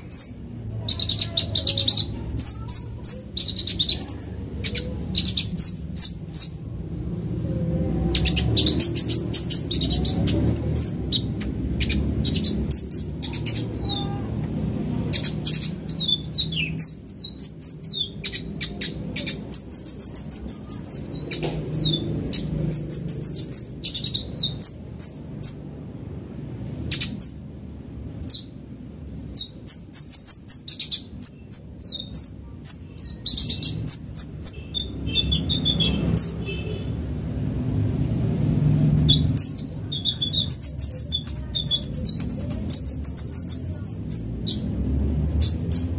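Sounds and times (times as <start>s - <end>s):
bird singing rapid chirps and trills: 0.0s - 26.0s, 26.8s - 27.6s, 28.2s - 36.9s, 39.0s - 45.9s.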